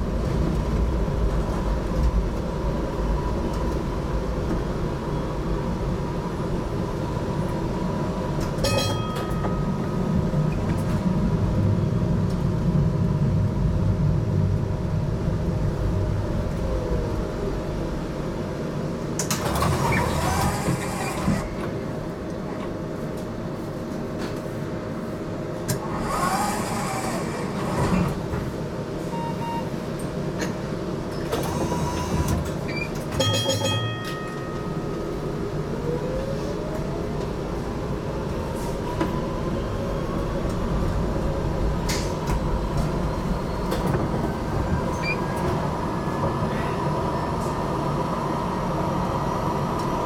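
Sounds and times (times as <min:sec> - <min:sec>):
tram motor whine: 0:00.0 - 0:22.2, 0:25.7 - 0:50.0
tram running noise: 0:00.0 - 0:50.0.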